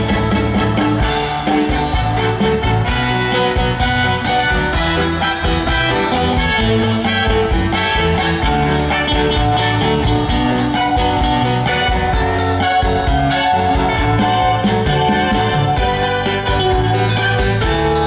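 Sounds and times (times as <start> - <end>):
live band playing pop music: 0.0 - 18.0
steady drum beat: 0.0 - 18.0.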